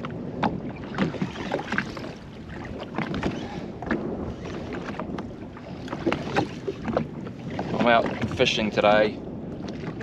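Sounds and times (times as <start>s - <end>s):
waves slapping against hull: 0.0s - 10.0s
wind on microphone: 0.0s - 10.0s.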